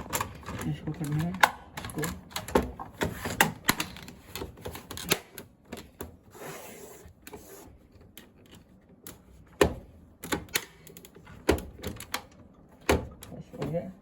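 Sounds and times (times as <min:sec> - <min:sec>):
plastic parts clicking and knocking: 0:00.0 - 0:06.2, 0:08.0 - 0:13.9.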